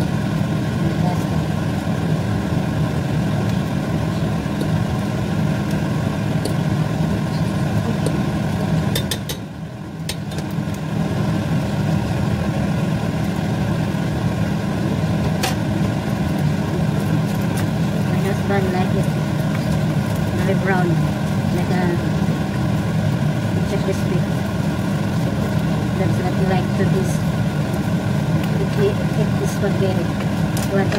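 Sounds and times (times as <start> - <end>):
low mechanical hum: 0.0 - 30.9.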